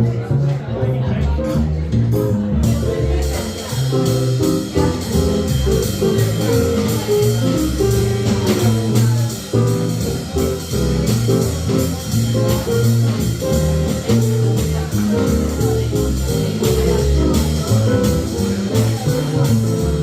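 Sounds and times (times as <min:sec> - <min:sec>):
jazz guitar line: 0:00.0 - 0:20.0
plucked bass notes: 0:00.0 - 0:20.0.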